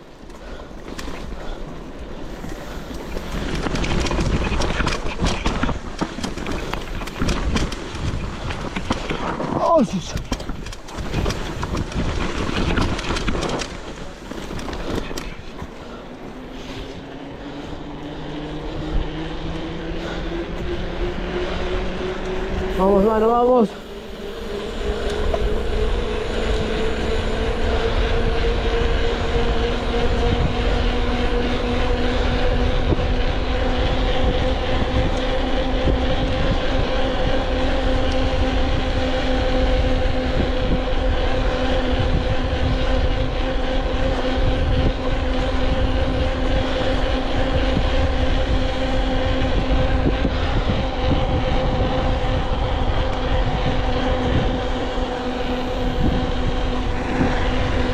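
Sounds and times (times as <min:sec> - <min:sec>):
vehicle engine under load: 0:00.0 - 0:57.9.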